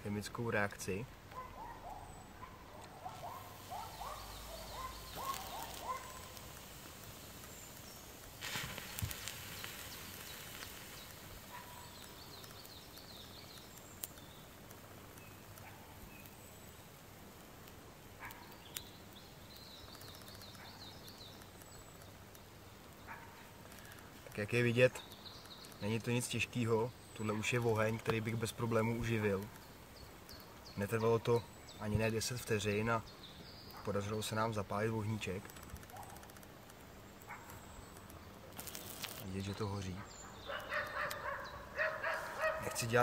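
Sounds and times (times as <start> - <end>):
birds singing: 0.0 - 43.0
crackling hissing burst: 2.8 - 43.0.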